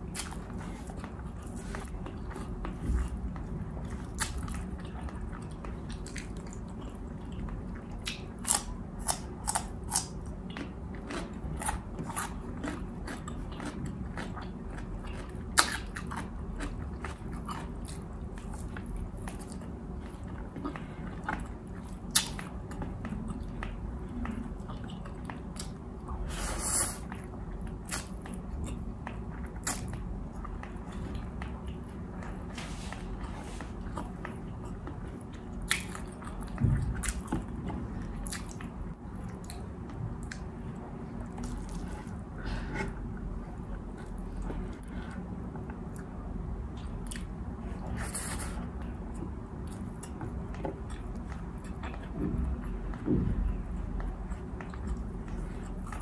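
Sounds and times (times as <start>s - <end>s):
person chewing steak: 0.0s - 46.2s, 46.8s - 53.0s, 53.7s - 56.0s.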